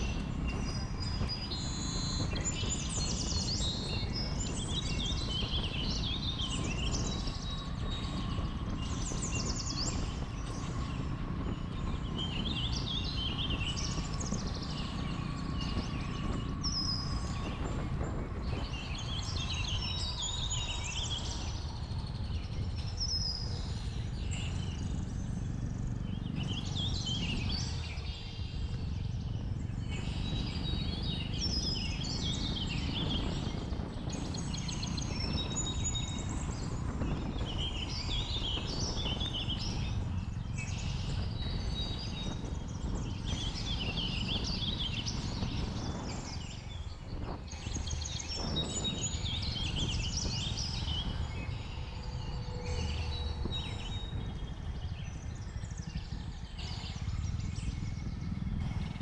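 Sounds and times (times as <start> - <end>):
birds chirping: 0.0 - 59.0
wind and road rumble: 0.0 - 59.0.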